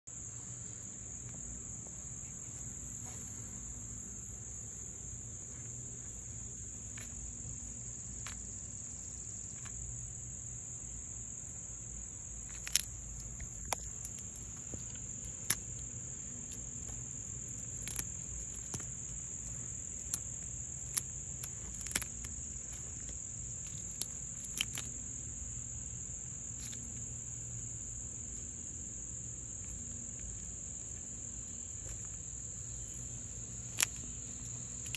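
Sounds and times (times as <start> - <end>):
insect chorus drone: 0.1 - 34.9.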